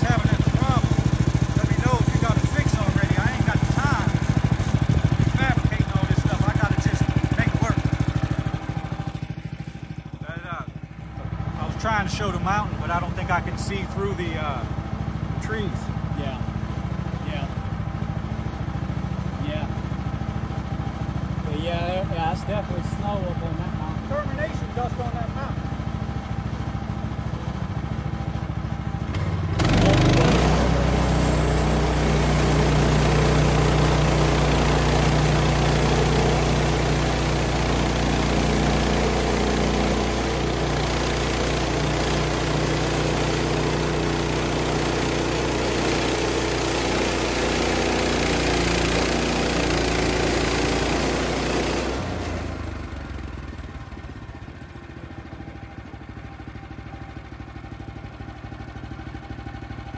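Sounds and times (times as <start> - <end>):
petrol engine revving and idling: 0.0 - 59.9.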